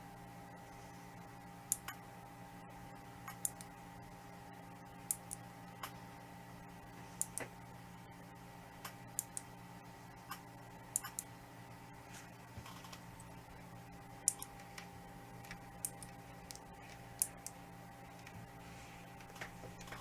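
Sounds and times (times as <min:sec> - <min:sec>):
computer case fans humming: 0:00.0 - 0:20.0.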